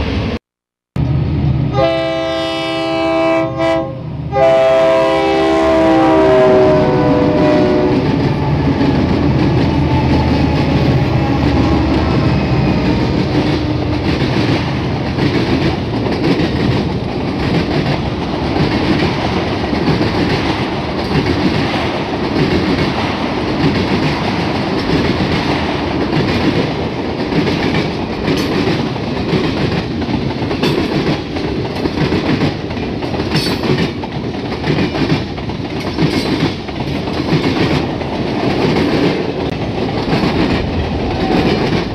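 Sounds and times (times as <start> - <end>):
model train wheels clickety-clack: 8.0 - 41.9.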